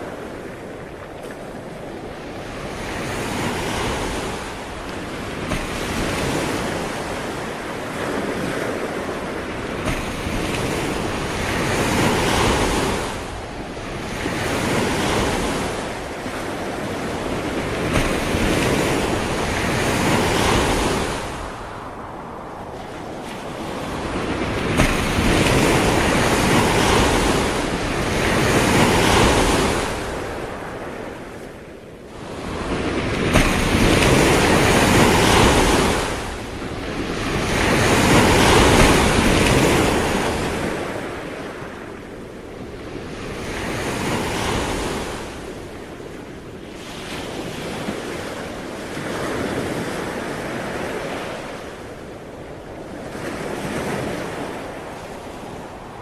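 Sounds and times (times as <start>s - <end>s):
sea waves breaking: 0.0s - 56.0s.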